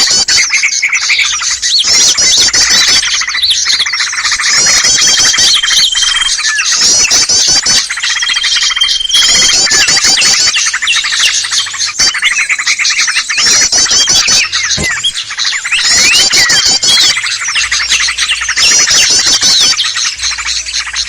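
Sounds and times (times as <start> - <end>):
chorus of small songbirds: 0.0 - 21.0.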